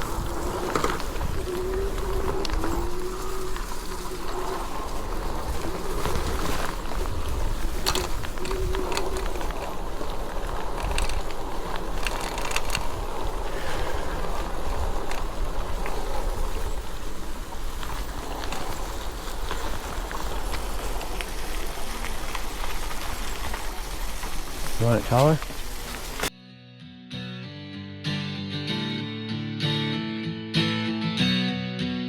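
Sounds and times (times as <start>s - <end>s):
bike clicks and rattles: 0.0s - 26.3s
tyres rushing on trail: 0.0s - 26.3s
wind rumbling on microphone: 0.0s - 26.3s.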